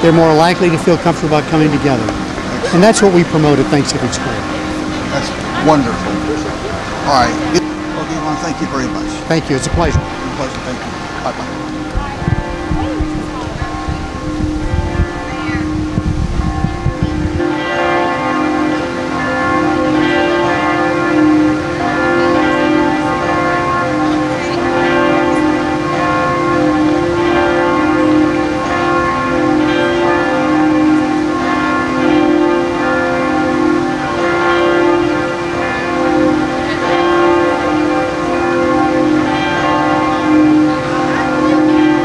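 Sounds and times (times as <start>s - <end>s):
bells ringing: 0.0s - 42.0s.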